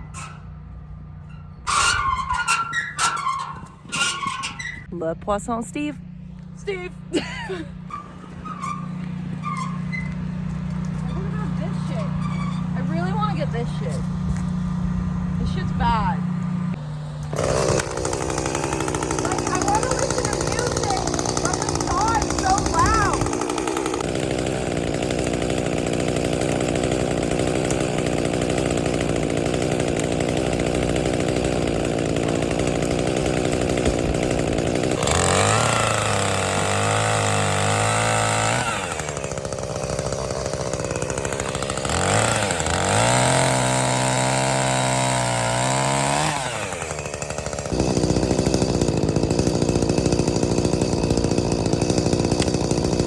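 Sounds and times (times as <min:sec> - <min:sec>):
chainsaw cutting wood: 0:06.7 - 0:53.0.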